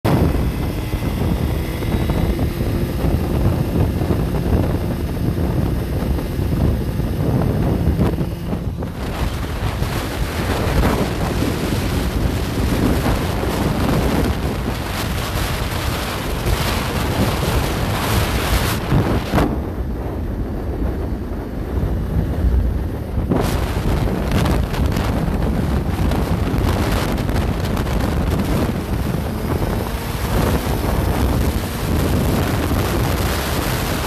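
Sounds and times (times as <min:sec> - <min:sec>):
motorcycle engine and tyre noise: 0:00.0 - 0:34.0
wind buffeting microphone: 0:00.0 - 0:34.0.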